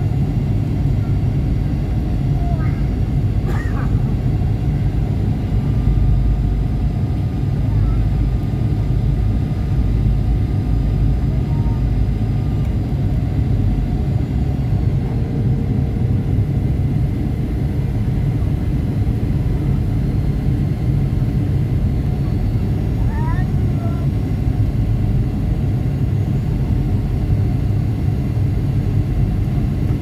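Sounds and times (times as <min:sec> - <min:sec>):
airliner engines and airflow rumble: 0:00.0 - 0:30.0.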